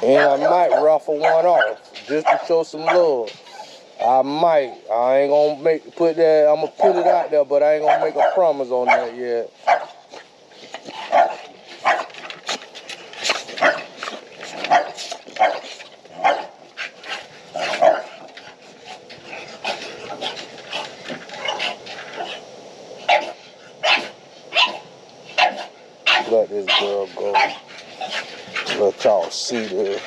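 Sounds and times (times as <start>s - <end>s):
dogs barking: 0.0s - 3.8s, 6.6s - 12.2s, 13.2s - 22.4s, 23.0s - 30.0s.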